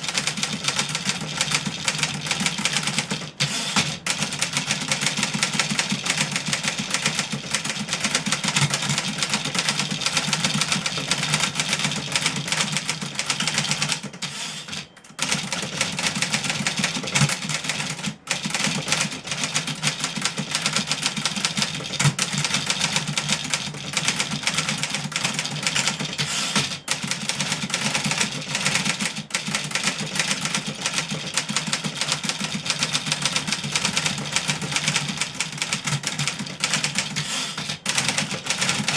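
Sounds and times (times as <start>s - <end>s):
typewriter keystrokes: 0.0s - 38.9s.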